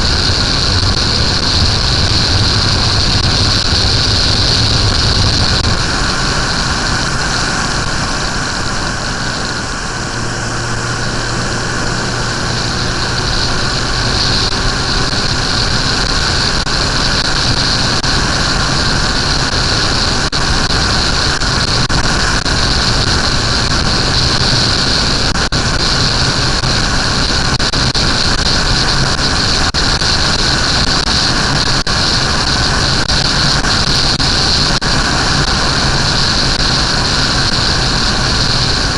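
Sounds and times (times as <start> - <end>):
loud steady rushing noise: 0.0 - 38.9
motorcycle engine running: 0.0 - 38.9.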